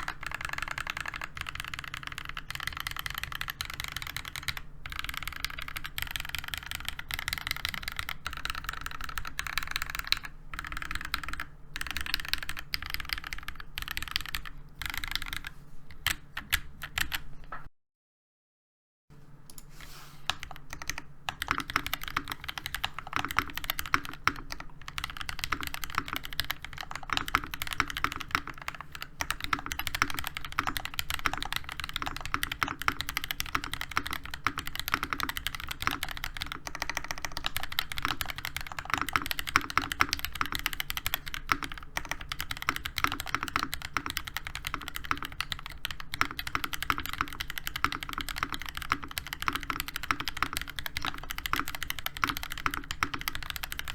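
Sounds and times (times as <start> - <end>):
mechanical keyboard typing: 0.0 - 17.6, 20.3 - 53.9.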